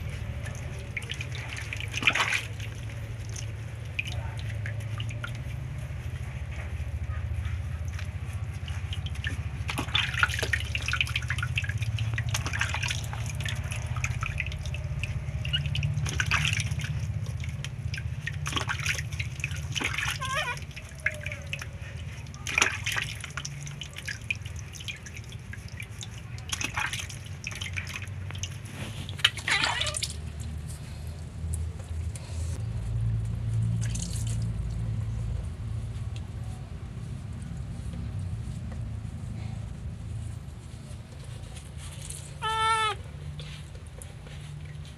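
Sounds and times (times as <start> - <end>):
water dripping and splashing: 0.0 - 36.4, 42.8 - 44.9.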